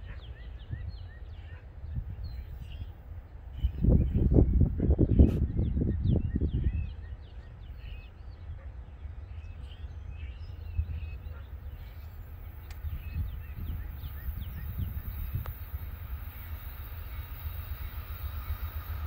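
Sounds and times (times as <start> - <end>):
small birds chirping: 0.0 - 19.0
steady low rumble: 0.0 - 19.0.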